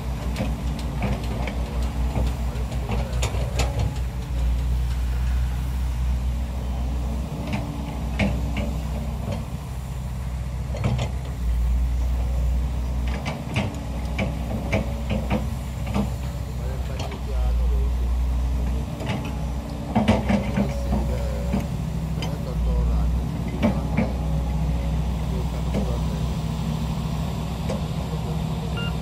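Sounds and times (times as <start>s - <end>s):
heavy machinery diesel engines: 0.0s - 29.0s.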